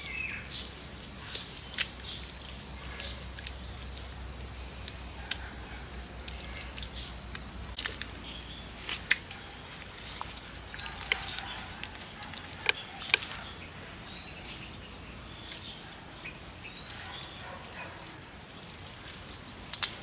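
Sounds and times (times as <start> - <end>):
soft outdoor background: 0.0 - 20.0.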